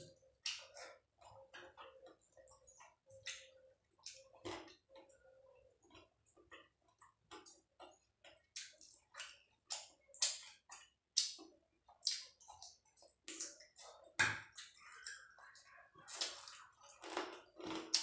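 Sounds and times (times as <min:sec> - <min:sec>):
chewing and lip smacks: 0:00.0 - 0:18.0.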